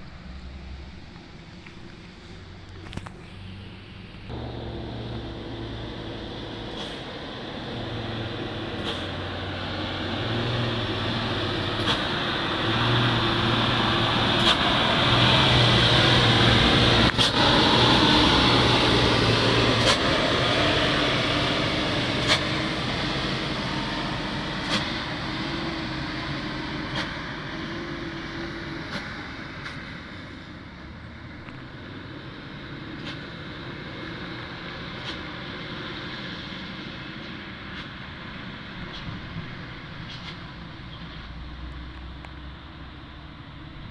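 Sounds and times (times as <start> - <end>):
diesel truck engine passing: 2.1 - 43.9.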